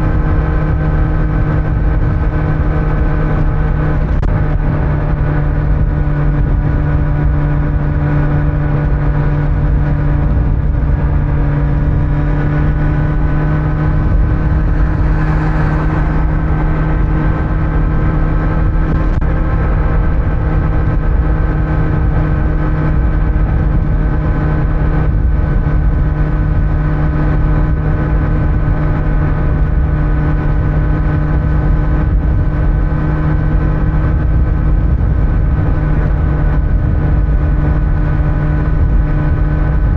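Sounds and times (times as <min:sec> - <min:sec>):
motorcycle engine cruising: 0:00.0 - 0:39.9
road rumble: 0:00.0 - 0:39.9
wind: 0:00.0 - 0:39.9.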